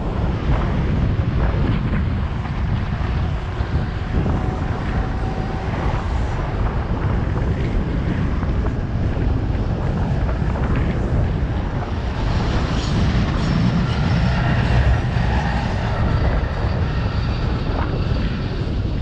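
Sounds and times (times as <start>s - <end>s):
car and truck engines: 0.0s - 17.6s
wind buffeting microphone: 0.0s - 19.0s.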